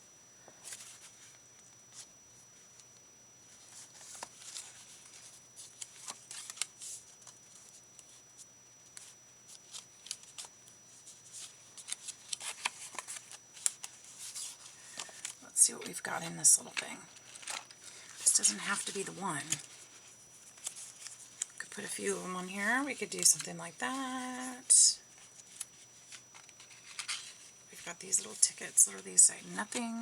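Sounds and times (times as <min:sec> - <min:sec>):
paper rustling: 0:03.5 - 0:08.2, 0:09.0 - 0:30.0.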